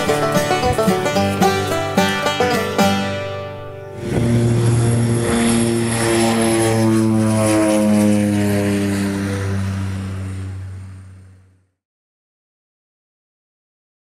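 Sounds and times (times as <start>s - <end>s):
propeller plane flying past: 0.0s - 11.8s.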